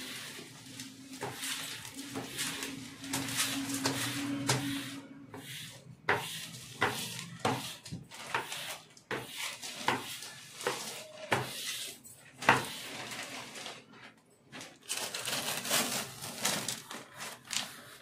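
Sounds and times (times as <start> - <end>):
plastic squeegee scraping sheet: 0.0 - 18.0.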